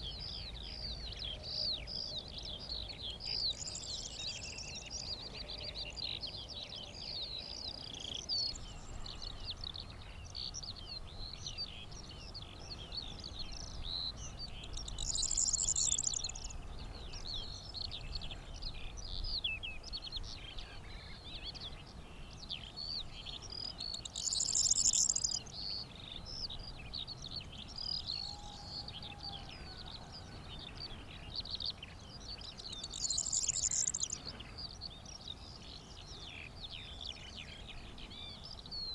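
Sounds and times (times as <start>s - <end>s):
skylark twittering song: 0.0s - 38.9s.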